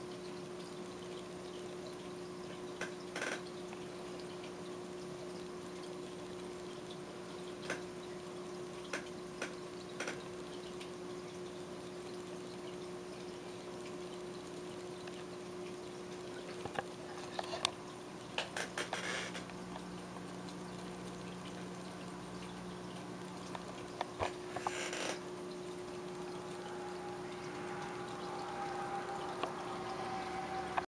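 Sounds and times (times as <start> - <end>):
aquarium filter water trickling: 0.0 - 30.9.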